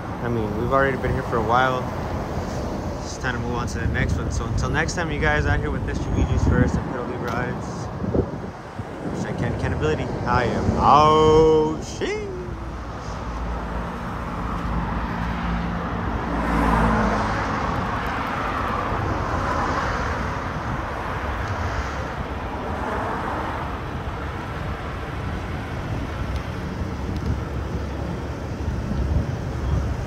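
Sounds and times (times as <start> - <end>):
low traffic rumble: 0.0 - 30.0
vehicles passing: 0.0 - 30.0.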